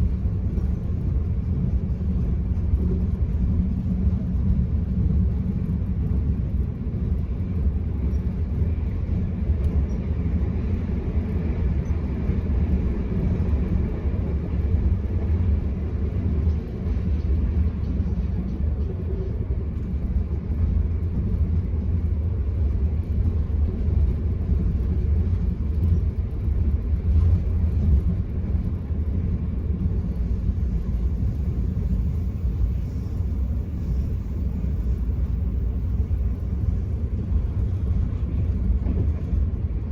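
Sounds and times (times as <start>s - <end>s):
train rumbling at speed: 0.0s - 39.9s.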